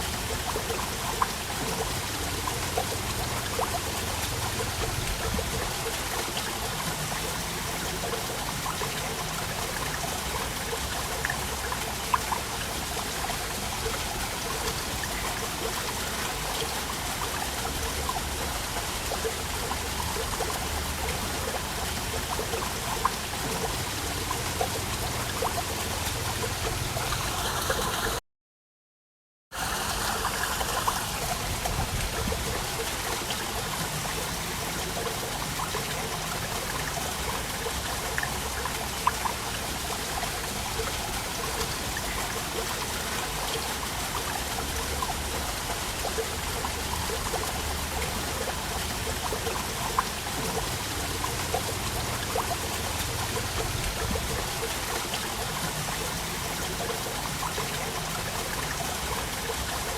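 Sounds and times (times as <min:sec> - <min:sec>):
waterfall rushing and splashing: 0:00.0 - 0:28.2, 0:29.6 - 0:59.9.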